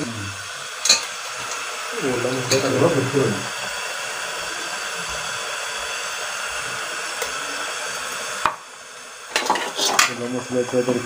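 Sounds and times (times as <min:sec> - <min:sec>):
pot hissing on stove: 0:00.0 - 0:11.0.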